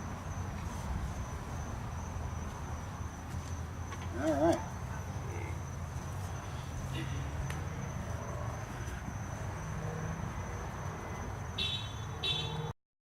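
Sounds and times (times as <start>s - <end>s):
crickets chirping: 0.0s - 12.7s.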